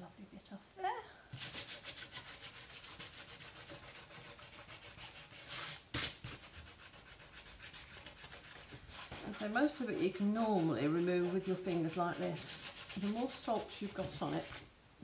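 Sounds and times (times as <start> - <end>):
fingertips scratching paper: 1.4 - 14.6.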